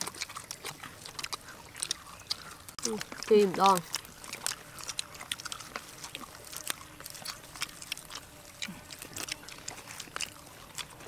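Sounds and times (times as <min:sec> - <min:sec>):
chewing crispy fried chicken: 0:00.0 - 0:11.0.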